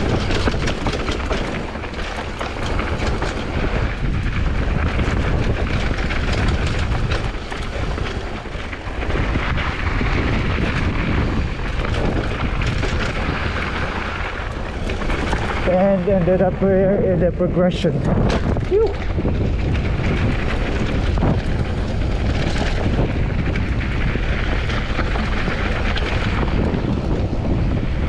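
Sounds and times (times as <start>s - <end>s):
bike clicks and rattles: 0.0s - 28.0s
wind buffeting microphone: 0.0s - 28.0s.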